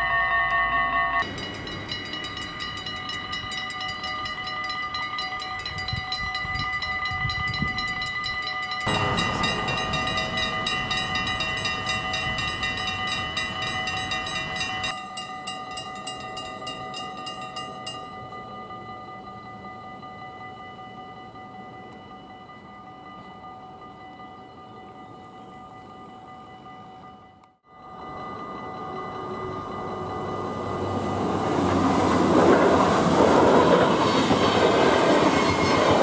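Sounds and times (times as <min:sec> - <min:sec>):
level crossing warning bells: 0:00.0 - 0:36.0.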